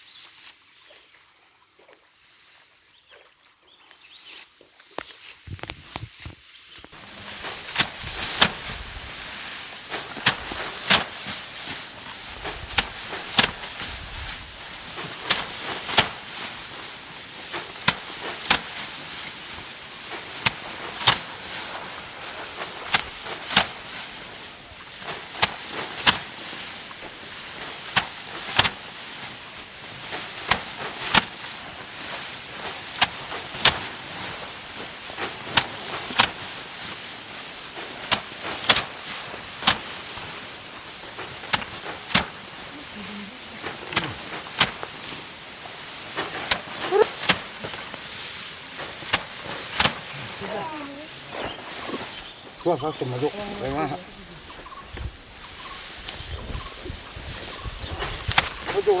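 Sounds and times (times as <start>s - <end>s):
steady hiss: 3.9s - 59.0s
rice stalks snapping: 4.3s - 59.0s.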